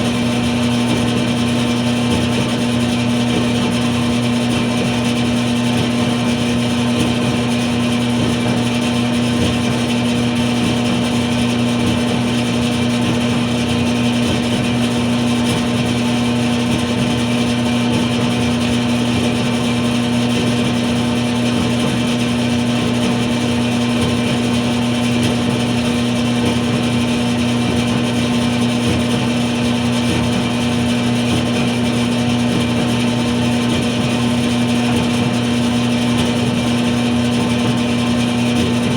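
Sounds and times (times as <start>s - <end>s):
clothes dryer humming: 0.0s - 38.9s.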